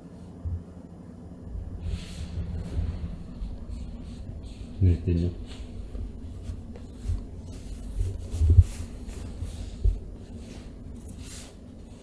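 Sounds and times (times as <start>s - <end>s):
rustling of nylon jacket: 1.6s - 12.0s.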